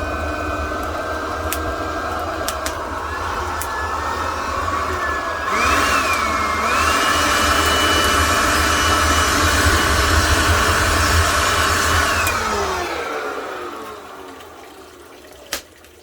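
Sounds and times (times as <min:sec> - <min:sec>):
small motor whining: 0:00.0 - 0:14.6.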